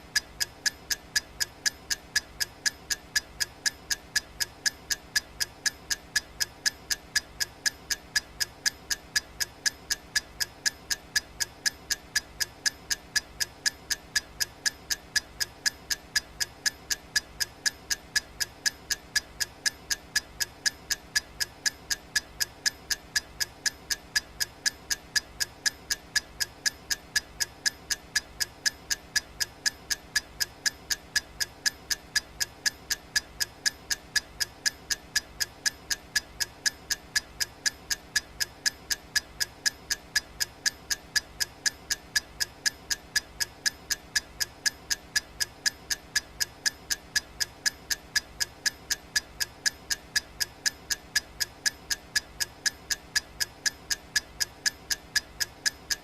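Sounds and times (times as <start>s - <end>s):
fast clock-style ticking: 0.0s - 56.0s.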